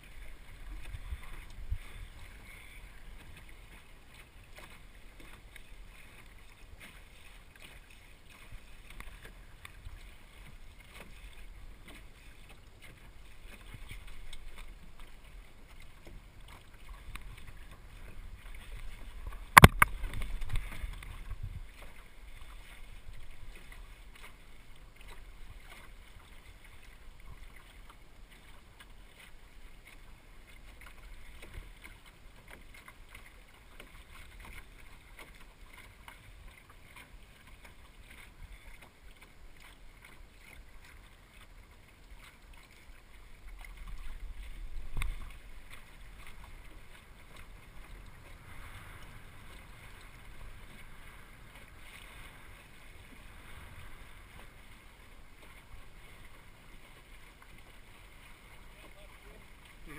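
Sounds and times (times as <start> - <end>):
light wind: 0.0 - 59.9
water lapping against boat hull: 0.0 - 59.9.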